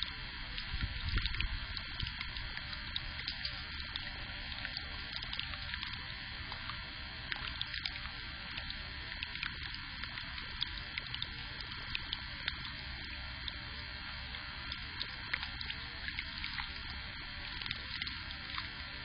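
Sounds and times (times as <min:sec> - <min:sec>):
faint ticks: 0:00.0 - 0:19.0
microphone hiss and rumble: 0:00.0 - 0:19.0.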